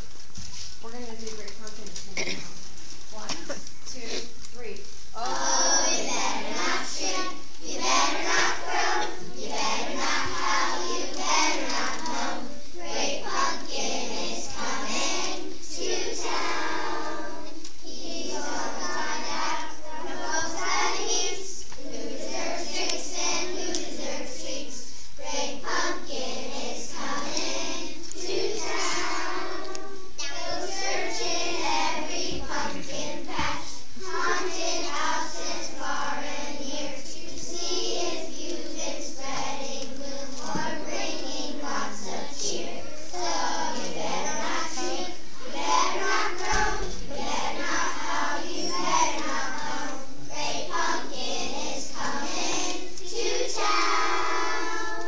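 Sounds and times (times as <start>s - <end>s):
children singing in unison: 5.2s - 55.0s.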